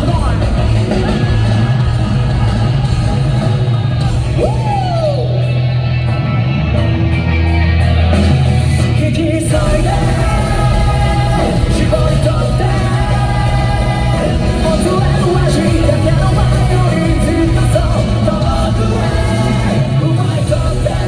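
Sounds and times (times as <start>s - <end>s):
lead singer singing: 0.0s - 5.8s, 8.2s - 21.0s
rock band playing live: 0.0s - 21.0s.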